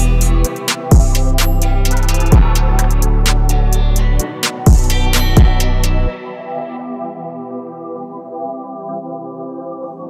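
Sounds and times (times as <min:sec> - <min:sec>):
electronic beat music: 0:00.0 - 0:10.0.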